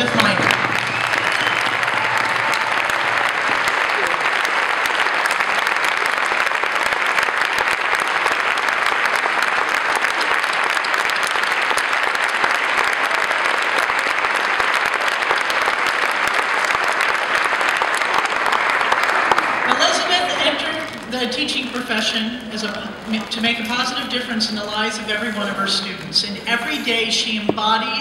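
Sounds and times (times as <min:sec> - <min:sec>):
audience applauding: 0:00.0 - 0:27.8.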